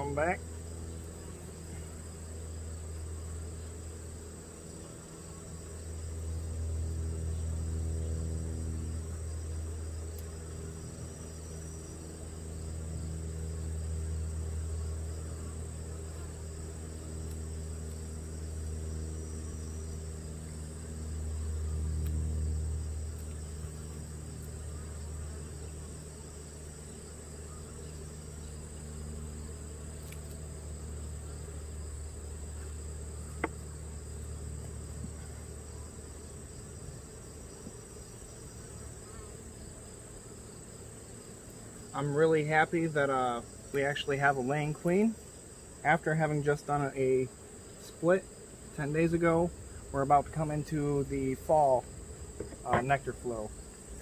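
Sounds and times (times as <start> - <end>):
high-pitched insect trill: 0.0 - 54.0
honeybees buzzing: 0.0 - 54.0.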